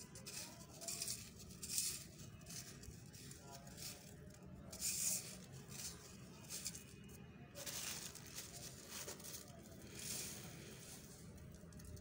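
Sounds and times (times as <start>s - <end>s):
sand sifting through metal sieve: 0.0s - 7.0s, 7.6s - 12.0s
grains pattering onto powder: 0.0s - 12.0s.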